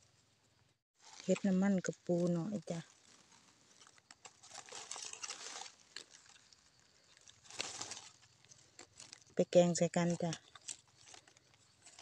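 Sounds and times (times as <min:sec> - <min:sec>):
dry leaves rustling: 0:01.0 - 0:12.0.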